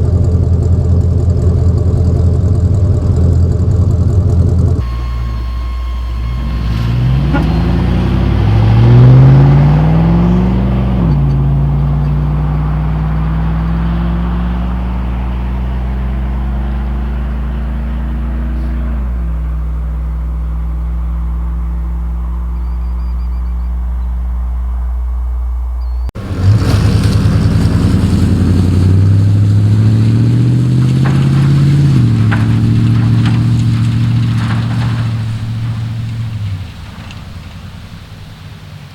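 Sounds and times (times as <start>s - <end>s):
truck engine exhaust accelerating: 0.0s - 38.9s.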